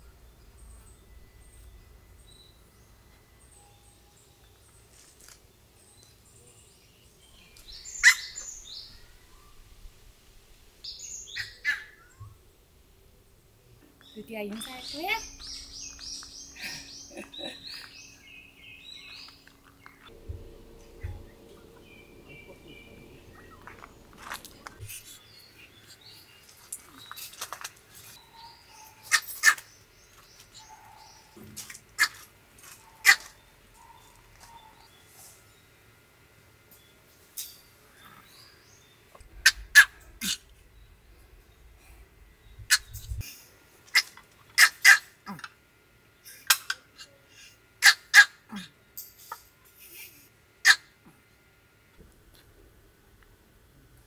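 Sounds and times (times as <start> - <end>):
faint birds chirping: 0.0 - 47.9
faint outdoor background: 0.0 - 54.0.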